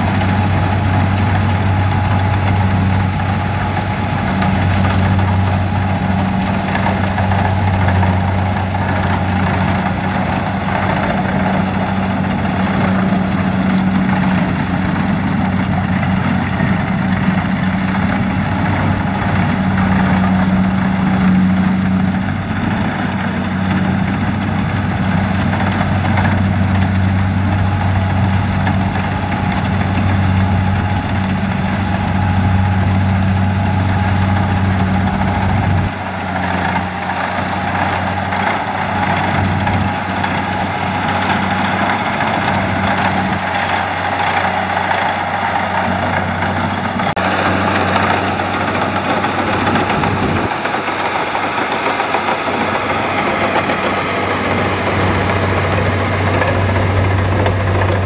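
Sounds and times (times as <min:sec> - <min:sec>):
combine harvester diesel engine droning: 0:00.0 - 0:58.0.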